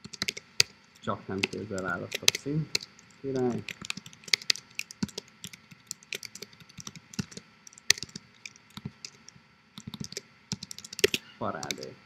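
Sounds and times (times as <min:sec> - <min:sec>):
typing on computer keyboard: 0:00.0 - 0:00.8, 0:01.4 - 0:11.9.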